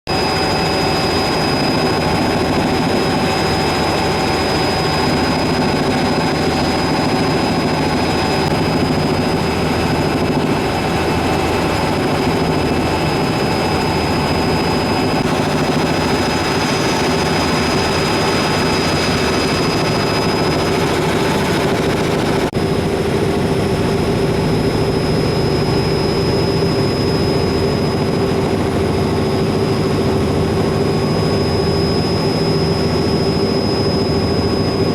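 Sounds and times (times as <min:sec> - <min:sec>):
helicopter engine and rotor: 0:00.1 - 0:34.9.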